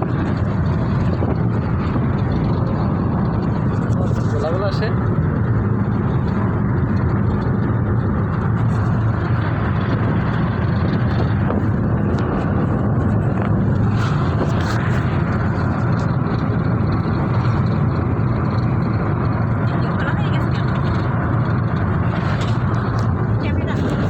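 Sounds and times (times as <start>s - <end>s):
car engine rumble: 0.0s - 24.0s
road noise: 0.0s - 24.0s.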